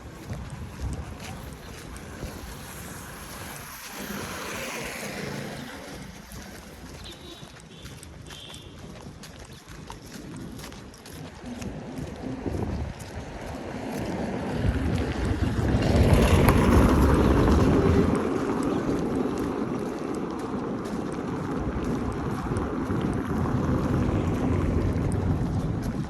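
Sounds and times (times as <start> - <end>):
vehicle passing by: 0.0 - 7.7, 11.9 - 26.0
street traffic noise: 0.0 - 26.0.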